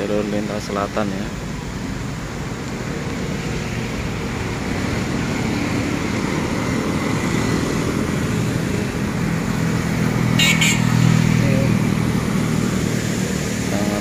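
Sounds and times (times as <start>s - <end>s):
cars and motorcycles passing: 0.0s - 14.0s
approaching vehicle engine: 1.8s - 14.0s.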